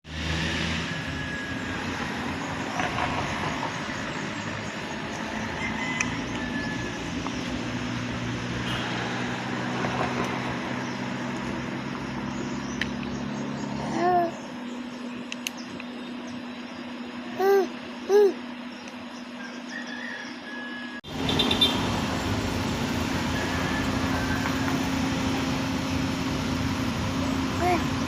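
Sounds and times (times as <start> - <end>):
heavy vehicle engine humming: 0.1 - 28.0.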